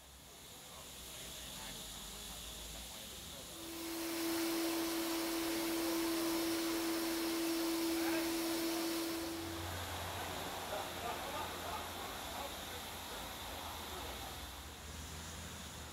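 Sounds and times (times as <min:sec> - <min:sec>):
steam locomotive hissing: 0:00.0 - 0:15.9.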